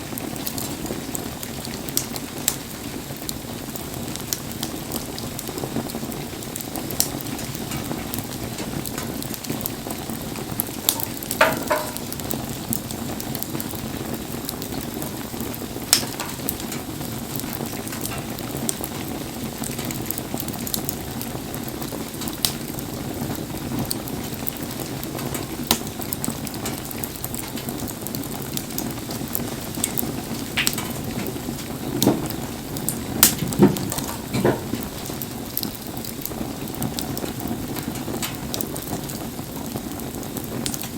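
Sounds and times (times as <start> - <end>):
rain: 0.0 - 40.9
sharp pops of fire: 0.0 - 40.9
wood fire hissing and crackling: 0.0 - 40.9.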